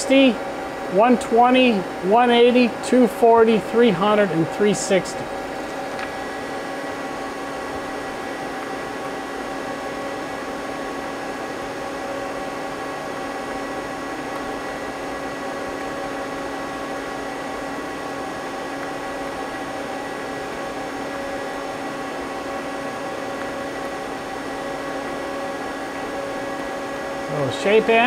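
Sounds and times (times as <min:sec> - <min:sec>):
lathe humming idle: 0:00.0 - 0:28.0.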